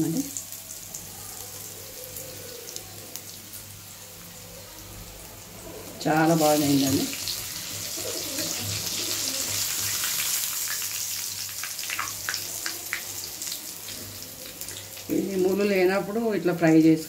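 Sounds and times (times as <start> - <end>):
fish frying in hot oil: 0.0 - 17.0.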